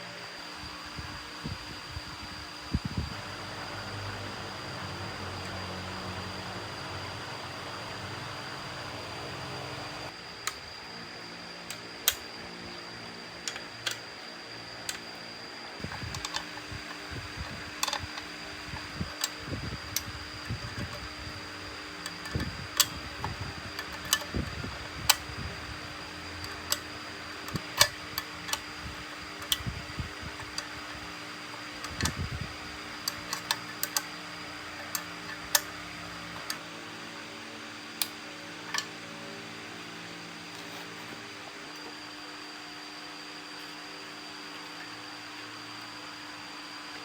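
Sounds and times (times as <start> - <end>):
steady mechanical hum: 0.0 - 47.0.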